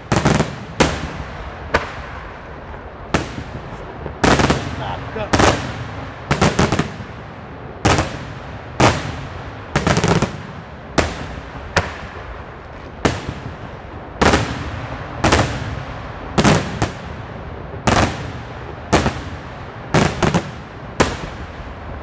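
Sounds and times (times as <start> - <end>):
fireworks bursting with echo: 0.0 - 22.0.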